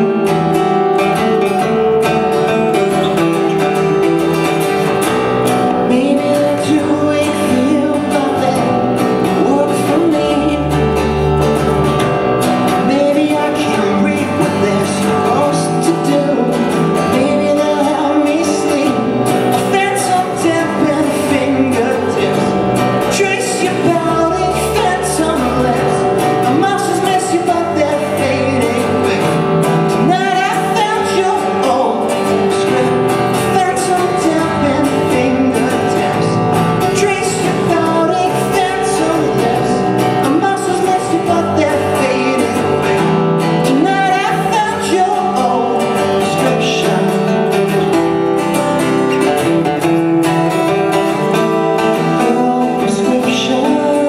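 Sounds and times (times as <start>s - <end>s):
acoustic bass guitar: 0.0s - 54.0s
man singing: 0.0s - 54.0s
strummed acoustic guitar: 0.0s - 54.0s.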